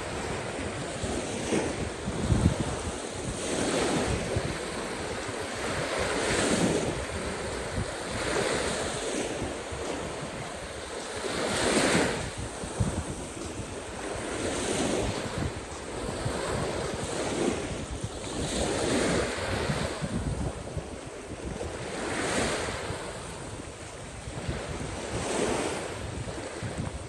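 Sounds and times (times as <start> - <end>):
sea waves washing in: 0.0 - 27.0
wind buffeting the microphone: 0.0 - 27.0.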